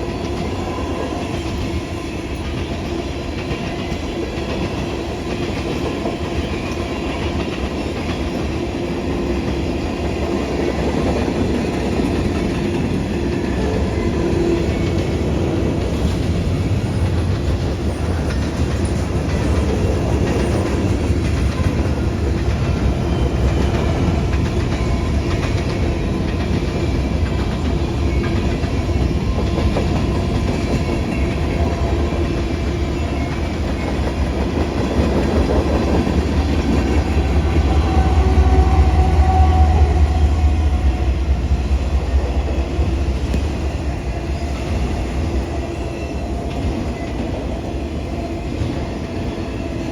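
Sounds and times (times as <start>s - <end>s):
train wheels clacking over rails: 0.0s - 49.9s.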